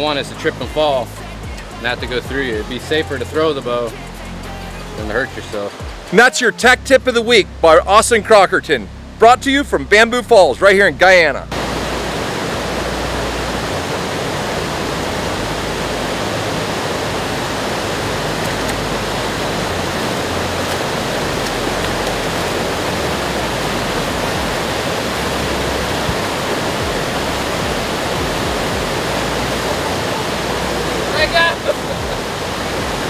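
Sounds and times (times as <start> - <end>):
whitewater rushing: 0.0 - 9.2, 11.5 - 33.0.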